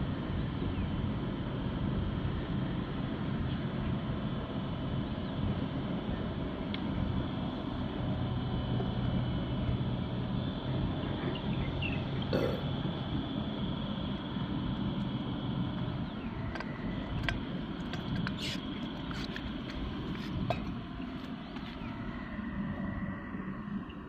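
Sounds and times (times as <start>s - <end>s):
ship engine low drone: 0.0s - 24.0s.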